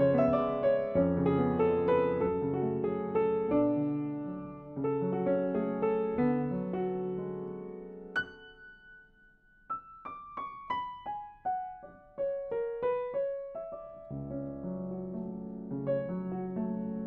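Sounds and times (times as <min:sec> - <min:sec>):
upright piano playing: 0:00.0 - 0:17.0.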